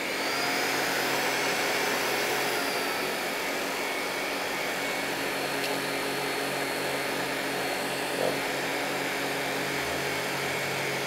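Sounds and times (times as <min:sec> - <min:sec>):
stick vacuum running on wood floor: 0:00.0 - 0:11.0.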